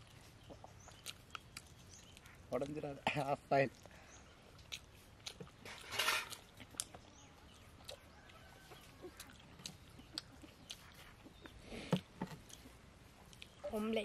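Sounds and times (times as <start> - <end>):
chewing clicks and mouth smacks: 0.0 - 13.6.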